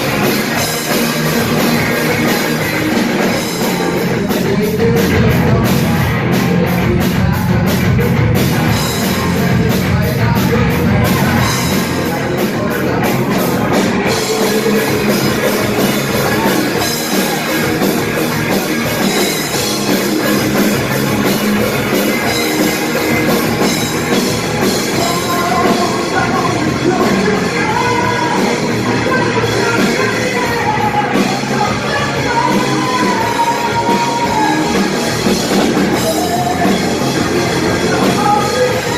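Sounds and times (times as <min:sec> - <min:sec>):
heavy rock band playing: 0:00.0 - 0:38.9
person singing: 0:00.0 - 0:38.9.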